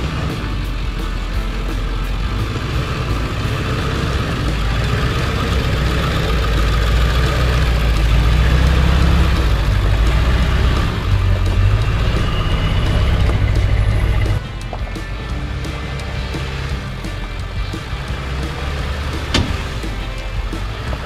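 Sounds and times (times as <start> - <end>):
truck engine droning: 0.0 - 21.0.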